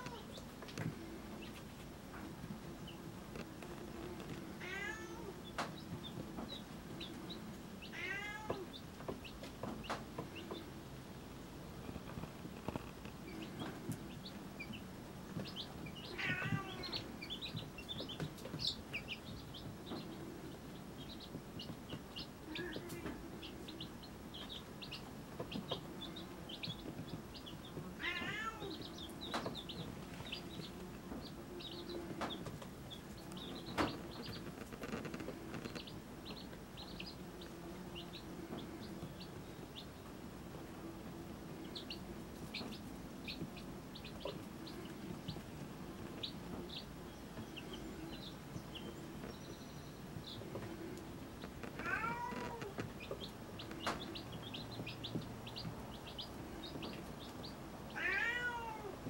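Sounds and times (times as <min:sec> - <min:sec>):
chicks peeping: 0:00.0 - 0:59.0
faint low hum: 0:00.0 - 0:59.0.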